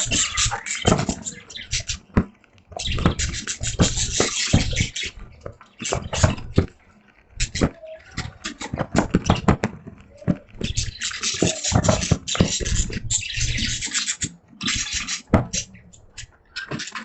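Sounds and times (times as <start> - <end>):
budgies clicking: 0.0 - 17.0
budgies scratchy hissing: 0.0 - 17.0.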